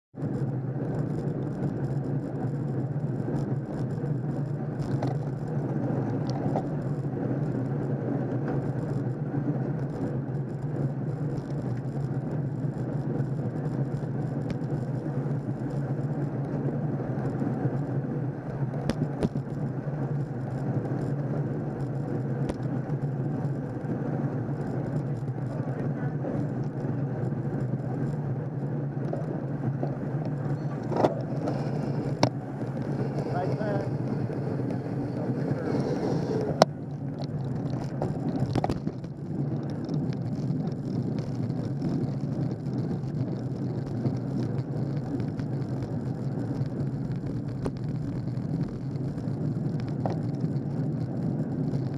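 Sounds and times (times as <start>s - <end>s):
tyres on asphalt: 0.1s - 51.9s
low steady hum: 0.2s - 51.9s
wind on microphone: 0.2s - 51.9s.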